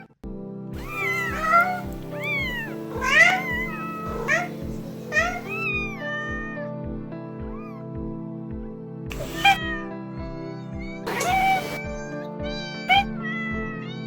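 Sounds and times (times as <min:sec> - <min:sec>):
cats meowing: 0:00.8 - 0:06.7, 0:07.4 - 0:08.0, 0:09.1 - 0:14.0.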